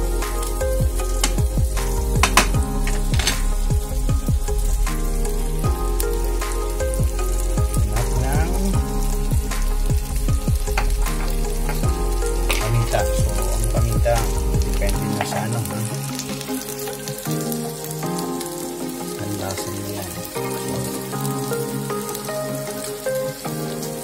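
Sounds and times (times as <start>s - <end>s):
background music: 0.0s - 24.0s.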